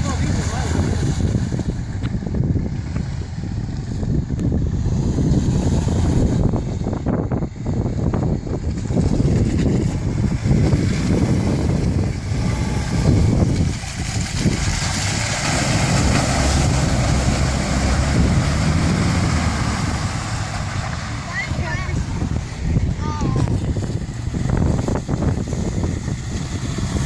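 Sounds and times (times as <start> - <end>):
car engine low rumble: 0.0 - 27.0.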